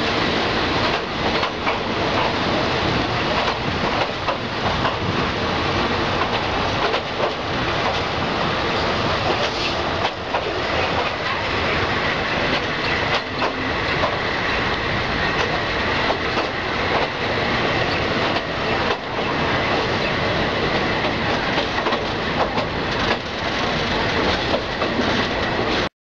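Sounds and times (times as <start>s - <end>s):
train wheel and rail noise: 0.0s - 25.9s
wheels clacking over rail joints: 0.8s - 25.9s.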